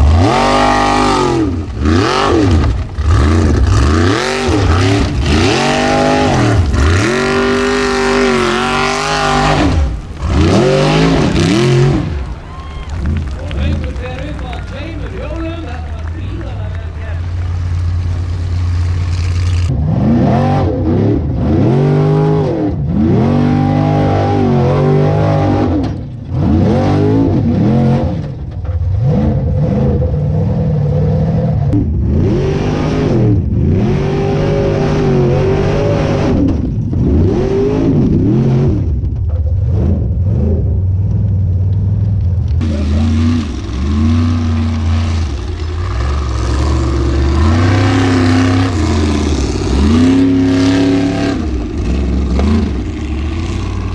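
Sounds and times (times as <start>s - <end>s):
buggy engine revving hard: 0.0s - 41.1s, 42.6s - 53.9s.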